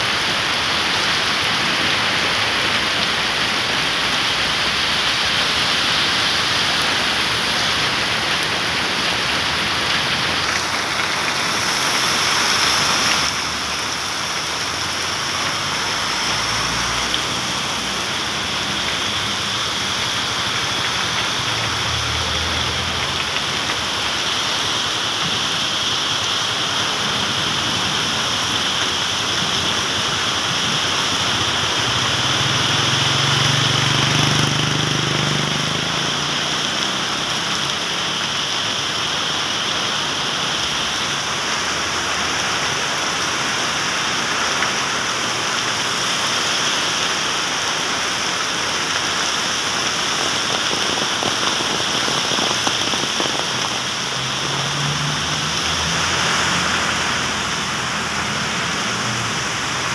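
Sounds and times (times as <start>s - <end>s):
heavy rain on wet road: 0.0s - 59.9s
traffic driving through water: 0.0s - 59.9s.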